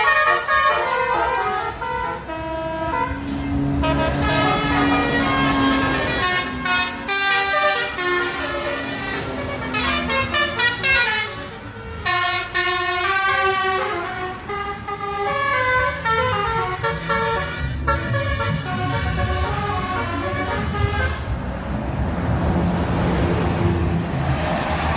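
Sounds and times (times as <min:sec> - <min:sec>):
bus engines rumbling: 0:00.0 - 0:24.9
bus horns playing melodies: 0:00.0 - 0:24.9.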